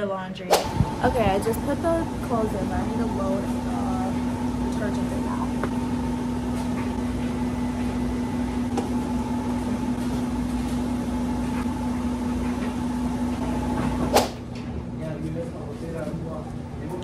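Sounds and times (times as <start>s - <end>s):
laundry machines humming: 0.0s - 17.0s.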